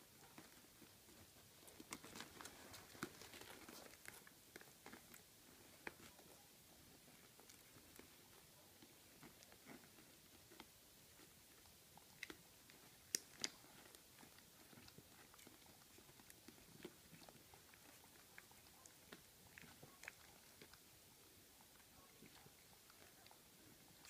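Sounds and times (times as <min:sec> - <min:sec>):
puppies nursing and crawling: 0:00.0 - 0:24.0.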